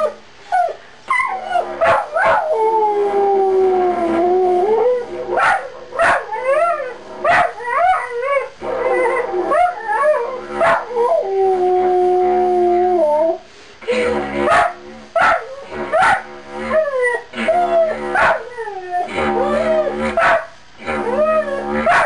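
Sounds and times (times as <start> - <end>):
dog howling and yipping: 0.0 - 13.4, 14.5 - 22.0
didgeridoo drone: 2.4 - 22.0.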